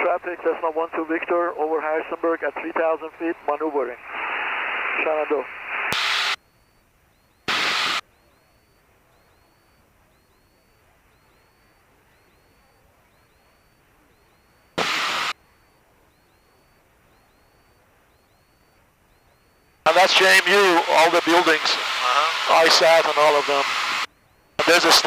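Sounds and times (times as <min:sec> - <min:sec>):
radio static bursts: 0:00.0 - 0:25.0.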